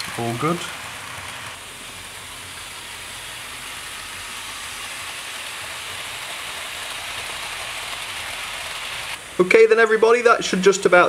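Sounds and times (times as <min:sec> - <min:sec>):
model train wheels and motors: 0:00.0 - 0:11.0.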